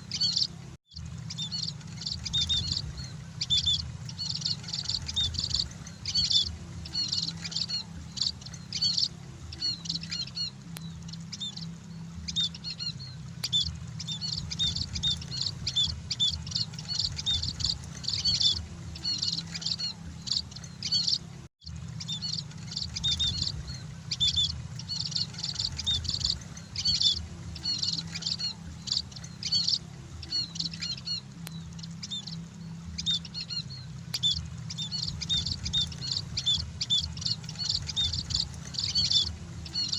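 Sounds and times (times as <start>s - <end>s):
flock of birds chirping: 0.0s - 39.9s
low steady hum: 0.0s - 39.9s.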